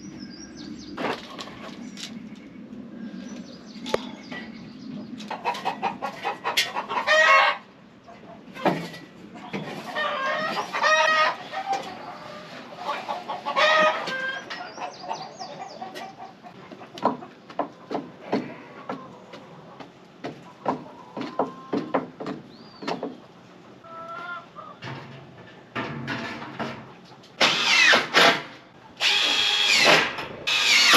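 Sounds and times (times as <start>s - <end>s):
chickens calling: 0.0s - 25.7s.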